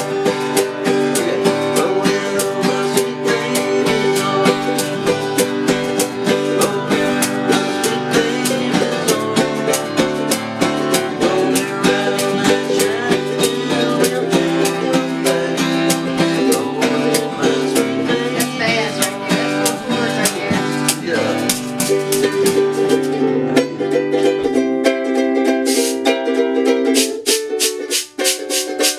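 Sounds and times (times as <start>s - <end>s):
plucked-string instruments playing: 0.0s - 28.9s.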